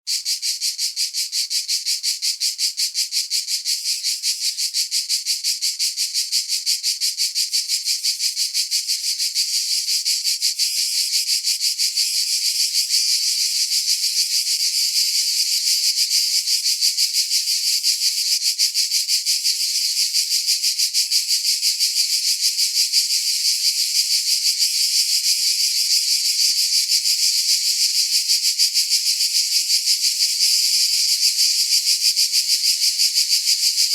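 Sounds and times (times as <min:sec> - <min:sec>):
cicada buzzing: 0:00.1 - 0:33.9.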